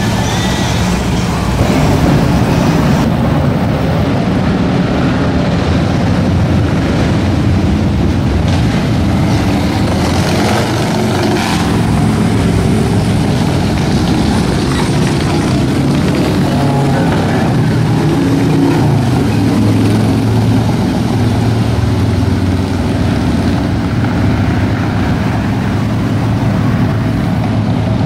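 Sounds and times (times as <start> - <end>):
motorcycle riding past: 0.0 - 28.0
street traffic engines: 0.0 - 28.0.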